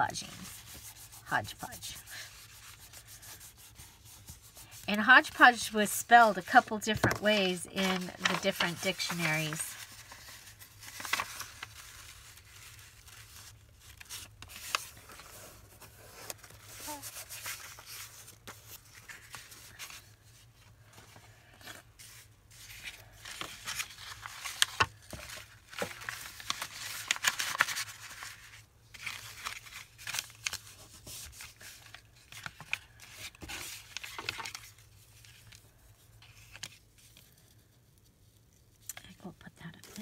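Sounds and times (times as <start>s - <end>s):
paper rustling and crinkling: 0.0s - 38.9s.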